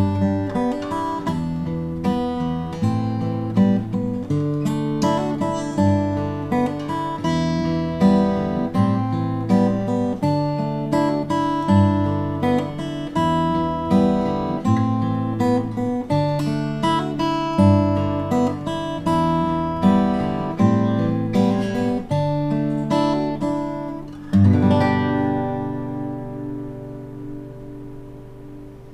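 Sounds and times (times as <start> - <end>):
fingerstyle acoustic guitar: 0.0 - 28.9.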